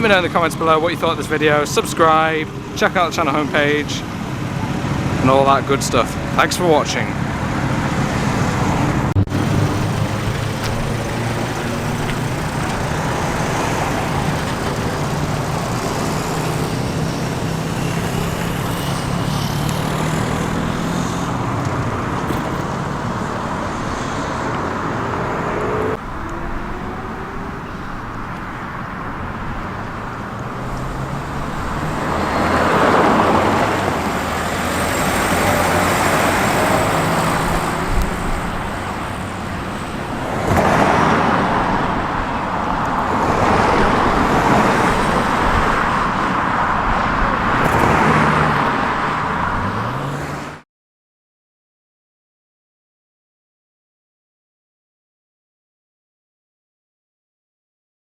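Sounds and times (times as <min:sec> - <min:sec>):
traffic engines humming: 0:00.0 - 0:50.6
vehicle passing close by: 0:00.2 - 0:50.6.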